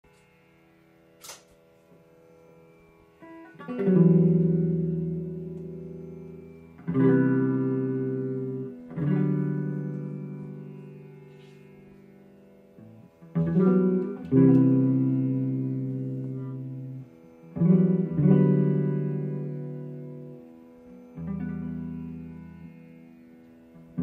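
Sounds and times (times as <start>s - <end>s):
guitar chords ringing: 0.1s - 24.0s.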